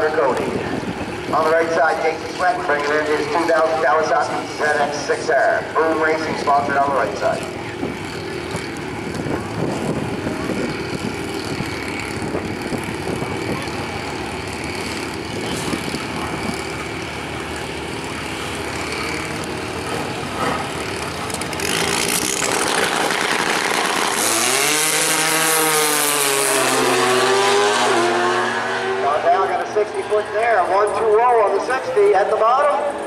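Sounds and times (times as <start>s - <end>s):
high-revving engine accelerating: 0.0s - 30.9s
snowmobile engine: 0.0s - 33.0s
sport bike engine: 0.0s - 33.0s.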